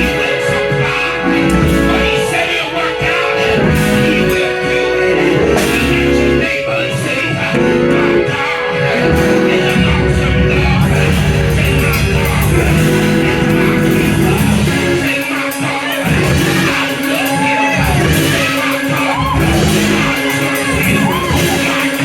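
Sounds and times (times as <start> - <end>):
organ chord and bass: 0.0 - 22.0
voices singing and shouting: 0.0 - 22.0.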